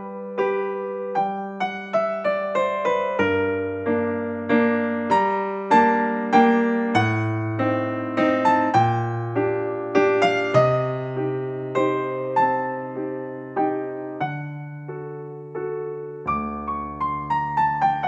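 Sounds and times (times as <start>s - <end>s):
electric piano melody: 0.0s - 18.0s.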